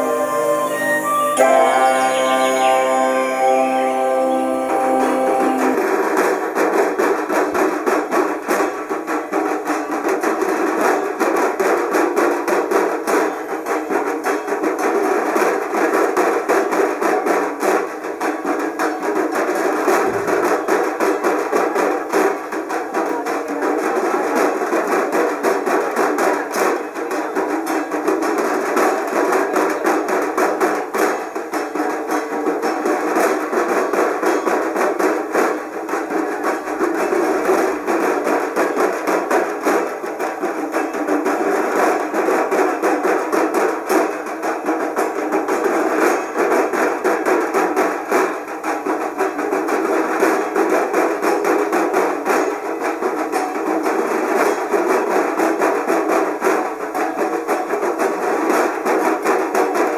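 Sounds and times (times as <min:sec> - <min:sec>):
drums beaten fast with sticks: 0:05.6 - 0:59.9.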